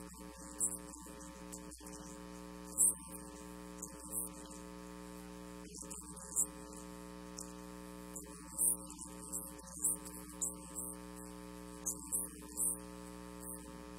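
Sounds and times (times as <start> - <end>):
electrical mains hum: 0.0 - 13.9
faint static: 0.0 - 13.9.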